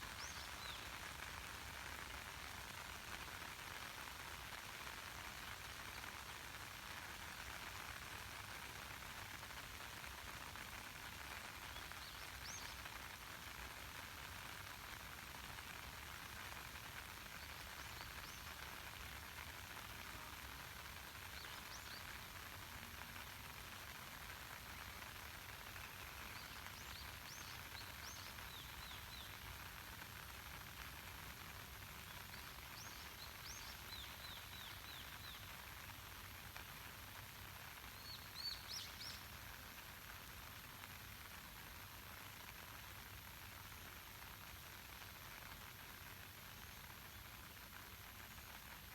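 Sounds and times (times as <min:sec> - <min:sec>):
light rain falling on a lake: 0:00.0 - 0:48.9.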